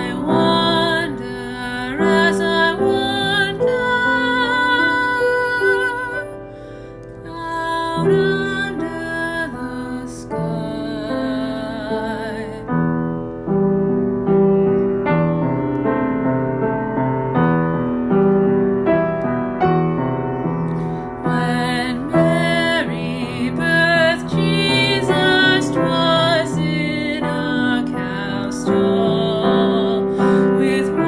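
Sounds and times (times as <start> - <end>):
gentle keyboard music: 0.0 - 31.0.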